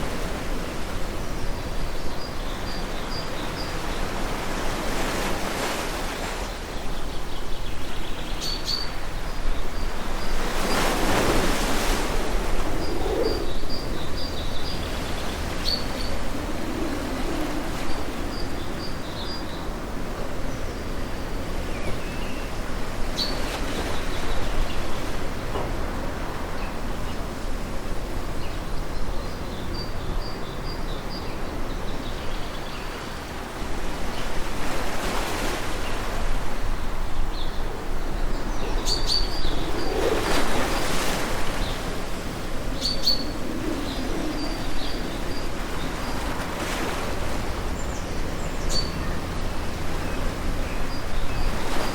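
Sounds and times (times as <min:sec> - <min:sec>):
ocean surf washing: 0:00.0 - 0:51.9.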